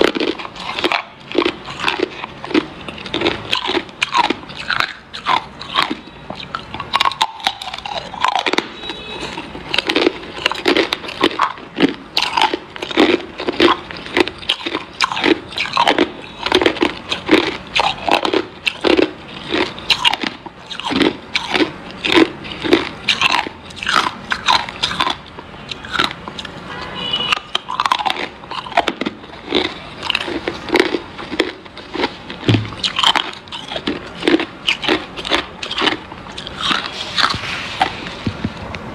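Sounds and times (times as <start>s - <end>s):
ice being chewed crunching: 0.0s - 38.2s.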